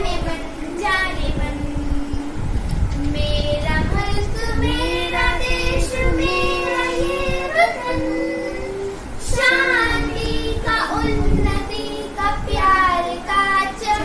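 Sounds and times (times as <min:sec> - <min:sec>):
girls singing together: 0:00.0 - 0:14.0.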